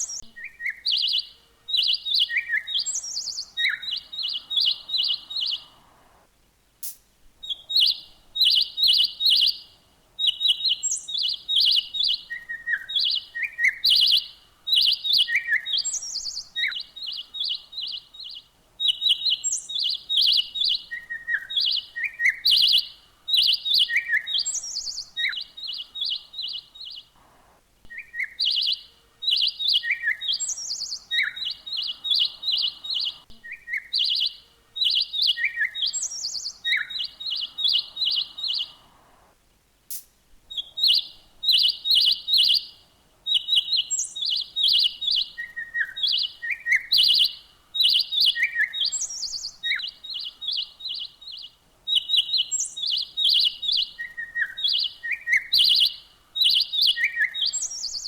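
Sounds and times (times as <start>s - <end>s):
small songbirds chirping: 0.0s - 58.0s.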